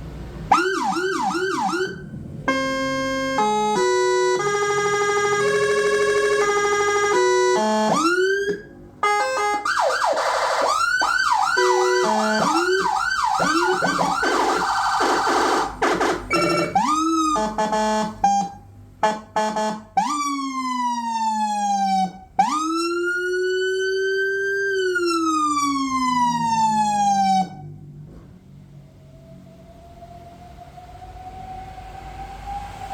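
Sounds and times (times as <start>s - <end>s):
electronic siren yelp and wail: 0.5s - 27.8s, 28.7s - 32.9s.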